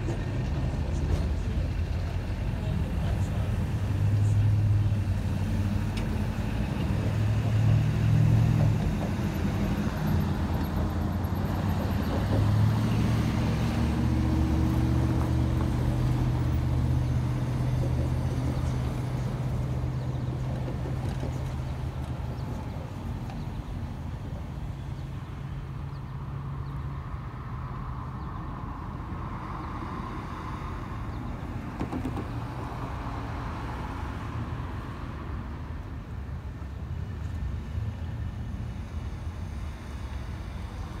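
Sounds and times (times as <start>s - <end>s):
diesel locomotive engine hum: 0.0s - 41.0s
road vehicles passing: 0.0s - 41.0s.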